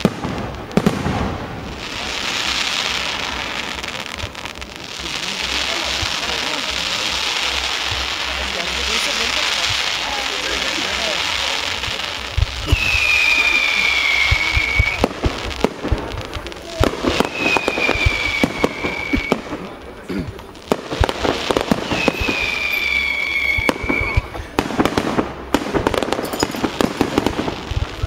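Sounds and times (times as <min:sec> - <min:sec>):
firework whistles: 0:00.0 - 0:20.0, 0:20.7 - 0:28.0
fireworks crackling bangs and pops: 0:00.0 - 0:28.0.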